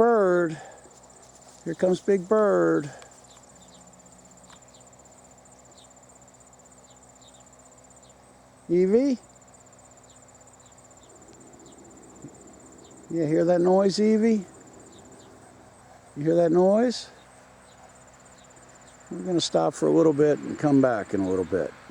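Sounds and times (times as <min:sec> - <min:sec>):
insects chirring: 0:00.0 - 0:21.9.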